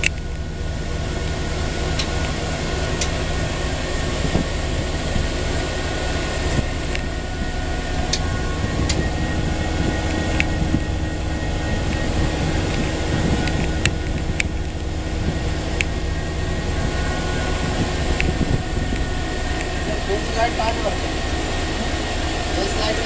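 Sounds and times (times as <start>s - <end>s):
diesel locomotive engine rumble: 0.0s - 23.0s
faint steady whine: 0.0s - 23.0s.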